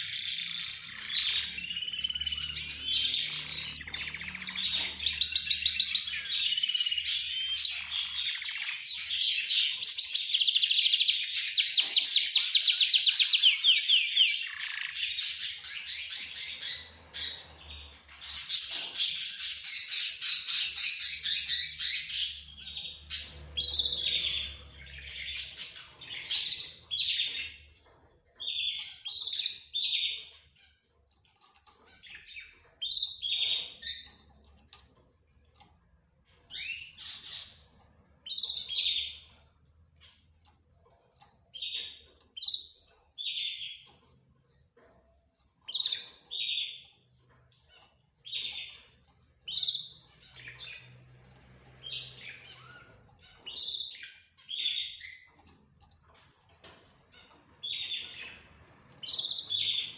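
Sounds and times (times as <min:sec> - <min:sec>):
cage birds chirping: 0:00.0 - 0:59.9.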